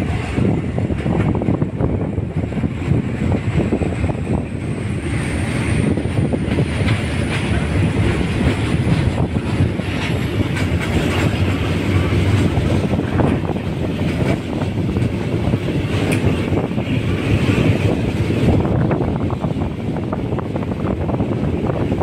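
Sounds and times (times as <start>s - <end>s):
wheels clacking over rail joints: 0.0s - 20.4s
train wheels rumbling on rail: 0.0s - 22.0s.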